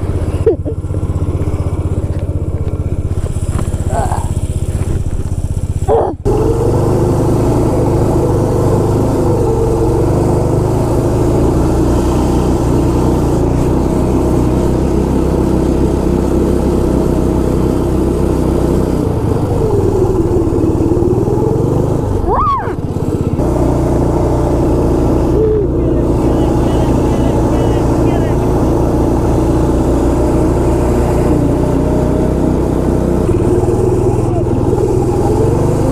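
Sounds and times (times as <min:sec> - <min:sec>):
small snowmobile engine running: 0:00.0 - 0:35.9.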